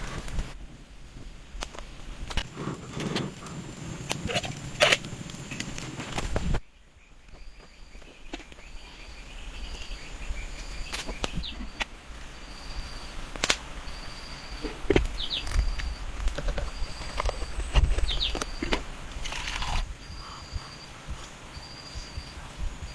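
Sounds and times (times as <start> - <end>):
outdoor background noise: 0.0 - 22.9.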